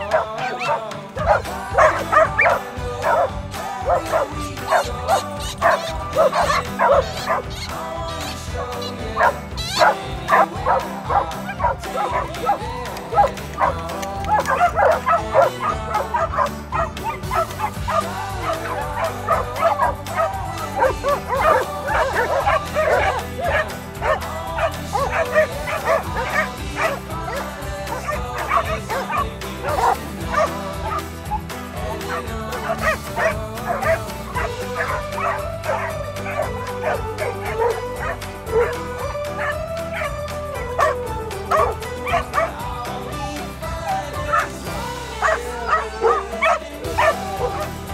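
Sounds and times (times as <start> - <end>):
dogs barking and whining: 0.0 - 47.9.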